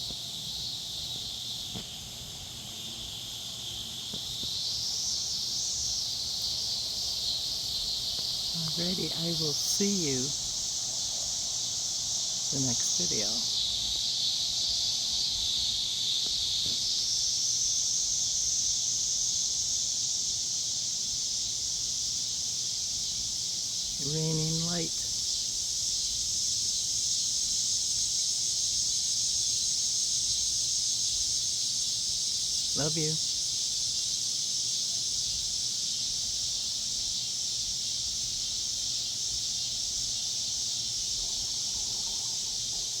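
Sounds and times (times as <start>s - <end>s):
insects chorus shrill drone: 0.0s - 43.0s.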